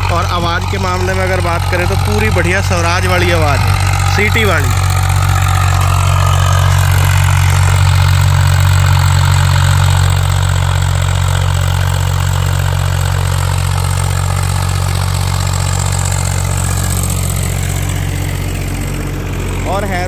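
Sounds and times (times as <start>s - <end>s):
engine whistling note: 0.0s - 20.0s
tractor diesel engine running: 0.0s - 20.0s.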